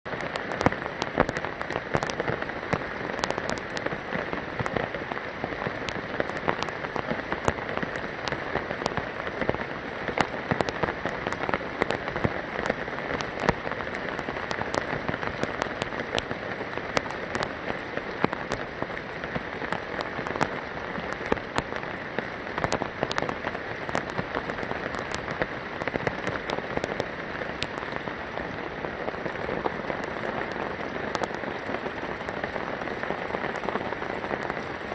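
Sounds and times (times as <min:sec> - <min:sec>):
rain drops ticking on hard surface: 0:00.1 - 0:34.9.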